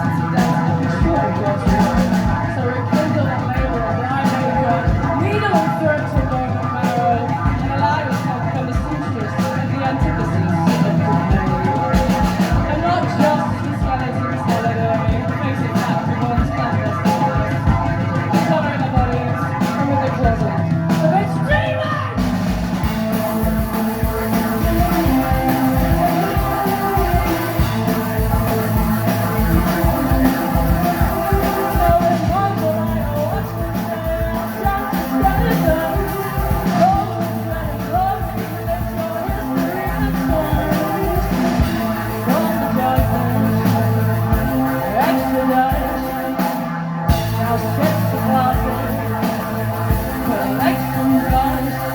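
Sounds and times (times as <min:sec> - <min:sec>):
person singing: 0:00.0 - 0:51.9
rock band playing live: 0:00.0 - 0:51.9.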